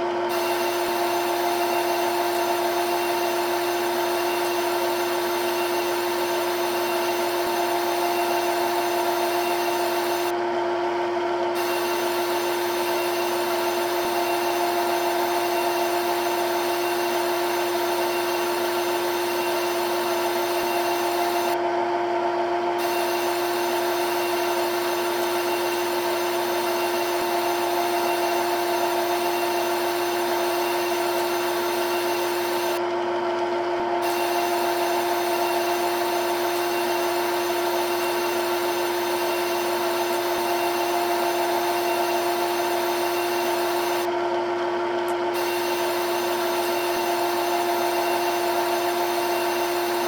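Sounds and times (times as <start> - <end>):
milling machine spindle hum: 0.0 - 50.0.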